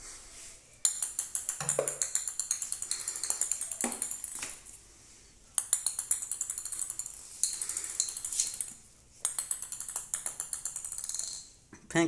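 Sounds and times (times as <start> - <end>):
toy ball rattling on tiled floor: 0.8 - 4.8, 5.5 - 11.6.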